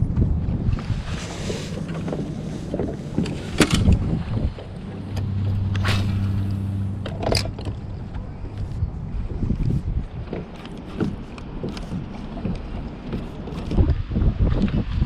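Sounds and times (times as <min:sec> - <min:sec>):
boat motor humming: 0:00.8 - 0:13.8.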